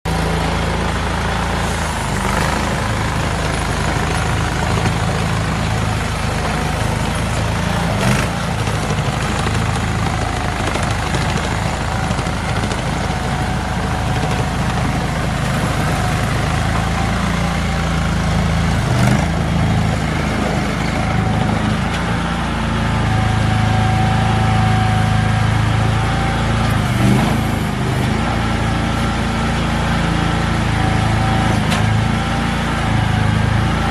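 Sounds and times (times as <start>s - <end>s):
gas engine running: 0.1s - 33.9s.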